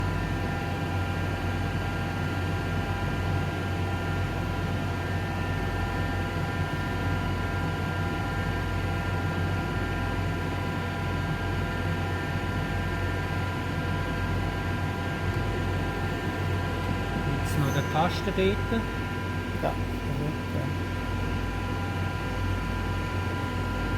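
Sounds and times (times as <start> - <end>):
grinding machine hum and whine: 0.0 - 23.9.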